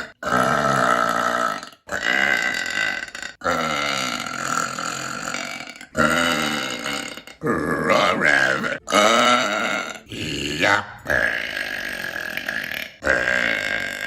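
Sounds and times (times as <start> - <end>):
woman's long burps: 0.0 - 7.8, 8.6 - 14.0.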